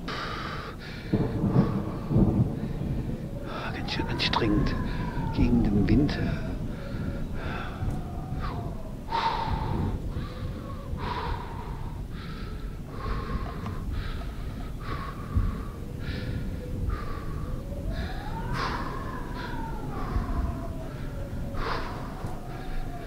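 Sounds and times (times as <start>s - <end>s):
cyclist panting: 0.0s - 4.1s, 4.8s - 5.3s, 6.2s - 23.0s
wind rumbling on microphone: 0.0s - 23.0s.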